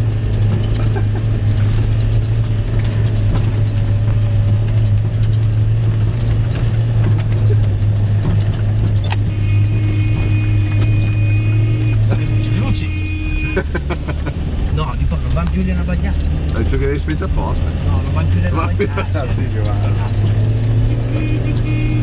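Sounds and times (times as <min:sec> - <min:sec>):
engine low hum: 0:00.0 - 0:22.0.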